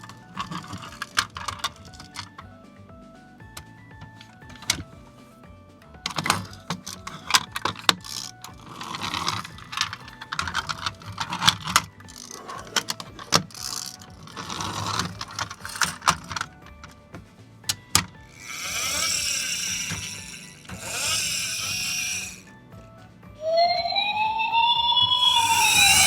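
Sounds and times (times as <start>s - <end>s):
model truck parts clicking and rattling: 0.0s - 2.4s, 3.6s - 5.0s, 6.0s - 22.5s, 25.2s - 26.0s.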